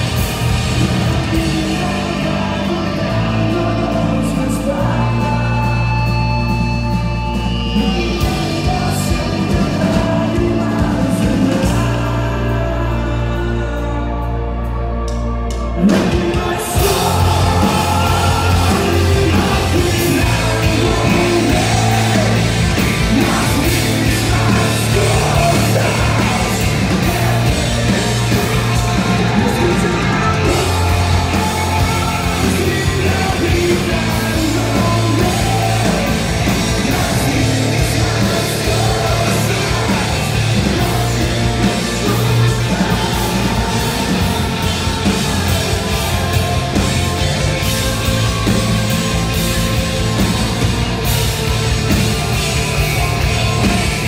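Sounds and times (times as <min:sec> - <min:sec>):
live rock band playing: 0:00.0 - 0:54.0
person singing: 0:00.6 - 0:49.2.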